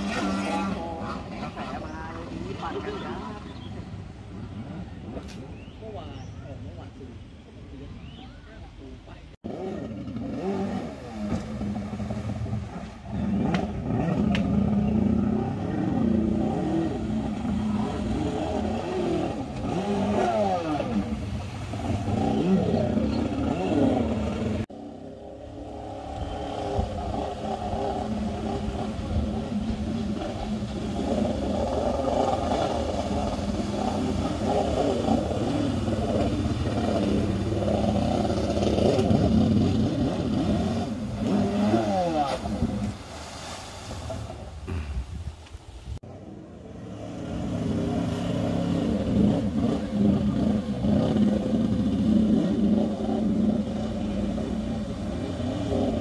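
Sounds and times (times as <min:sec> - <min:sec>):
jet ski engine revving: 0:00.0 - 0:06.0, 0:09.4 - 0:45.2, 0:46.0 - 0:56.0.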